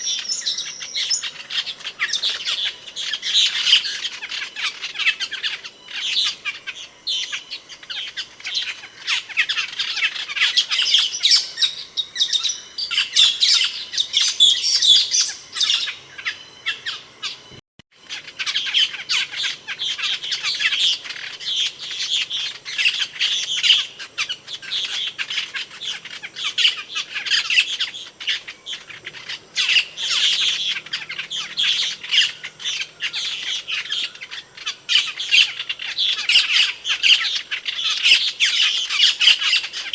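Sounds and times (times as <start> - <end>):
starling squawking and chirping: 0.0 - 17.5, 18.1 - 39.9.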